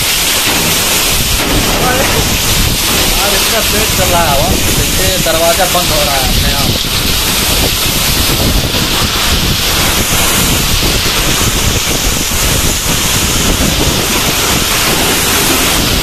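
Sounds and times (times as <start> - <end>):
heavy rain hiss: 0.0 - 16.0
wind buffeting microphone: 0.0 - 16.0.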